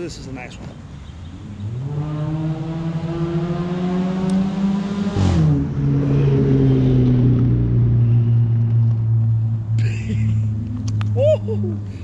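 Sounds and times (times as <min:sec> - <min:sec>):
vehicle engine accelerating: 0:01.3 - 0:12.0.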